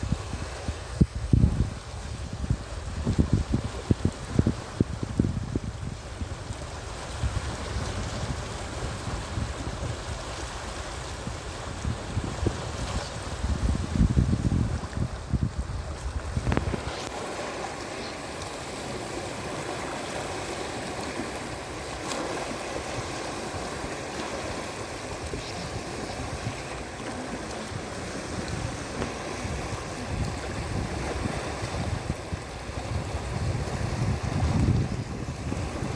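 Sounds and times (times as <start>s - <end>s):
waves washing on shore: 0.0s - 35.9s
wind buffeting microphone: 0.0s - 35.9s.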